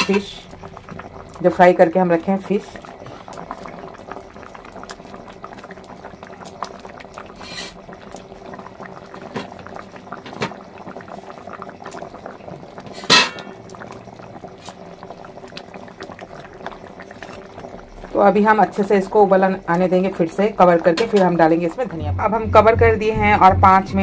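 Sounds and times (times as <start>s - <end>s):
gravy bubbling and popping: 0.0s - 24.0s.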